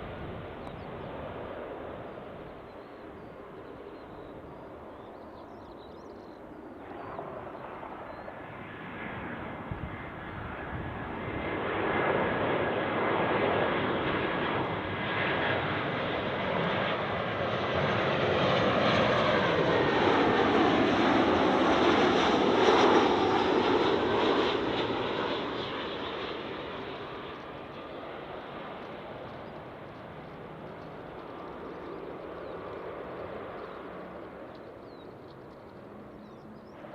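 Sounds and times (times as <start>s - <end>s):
airliner engines passing overhead: 0.0s - 36.9s.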